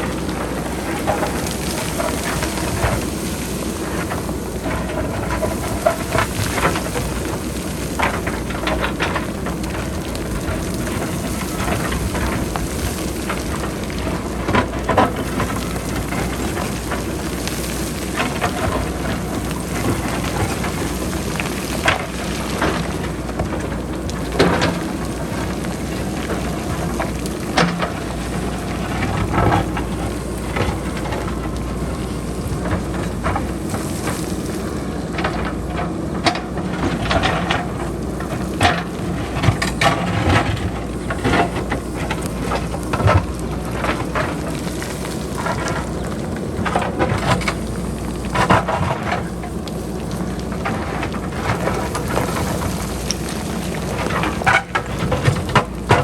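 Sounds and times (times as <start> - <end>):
rocks clattering down hillside: 0.0 - 56.0.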